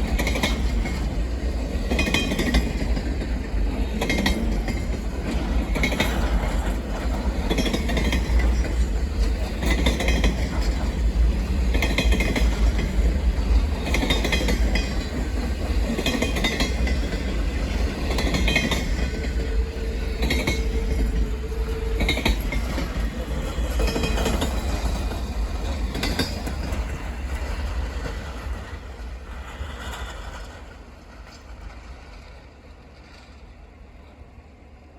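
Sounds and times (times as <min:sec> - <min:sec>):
train wheels clicking over rail joints: 0:00.0 - 0:34.2
heavy train rumble: 0:00.0 - 0:34.9.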